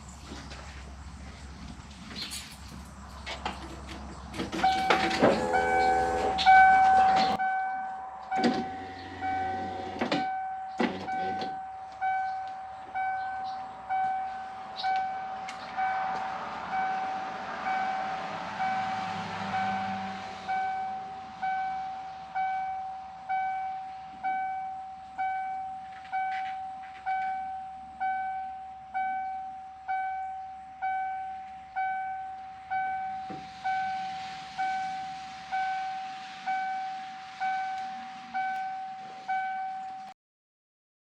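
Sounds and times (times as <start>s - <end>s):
vehicle warning chime dinging: 4.4s - 40.2s.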